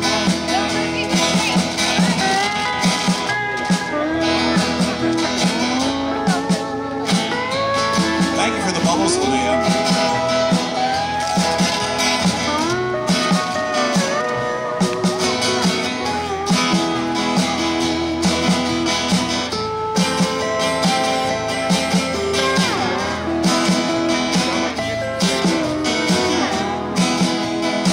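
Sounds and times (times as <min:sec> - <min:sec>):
acoustic guitar rhythm: 0:00.0 - 0:27.9
steady drum beat: 0:00.0 - 0:27.9
steel guitar sliding notes: 0:00.0 - 0:27.9.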